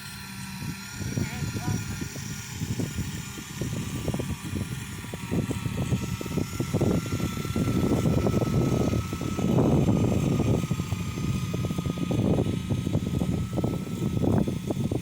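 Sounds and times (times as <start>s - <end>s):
high whine: 0.0s - 15.0s
rough pulsing mechanical noise: 0.0s - 15.0s.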